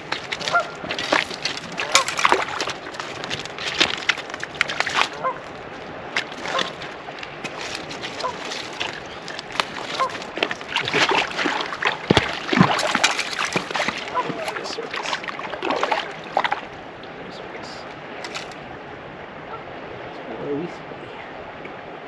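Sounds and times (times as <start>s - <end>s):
river water sloshing and splashing: 0.0s - 22.0s.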